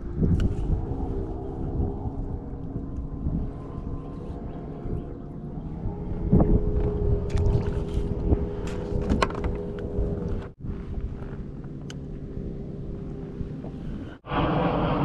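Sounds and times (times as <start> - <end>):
boat motor hum: 0.0 - 14.8
wind rumbling on microphone: 0.0 - 15.0.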